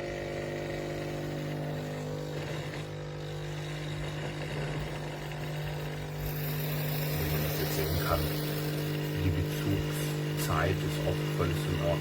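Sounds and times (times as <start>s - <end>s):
espresso machine humming: 0.0s - 12.0s.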